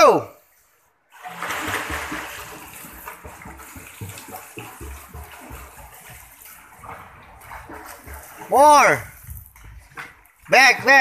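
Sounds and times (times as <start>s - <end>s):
child splashing in a pool: 1.1s - 11.0s.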